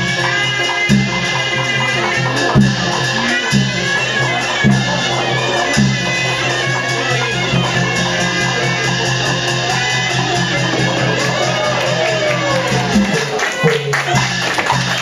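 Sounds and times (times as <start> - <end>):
reedy wind instrument: 0.0 - 14.8.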